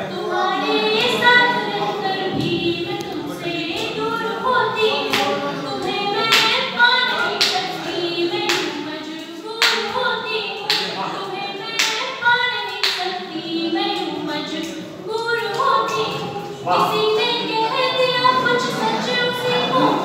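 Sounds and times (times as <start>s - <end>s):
person singing unaccompanied: 0.0s - 20.0s.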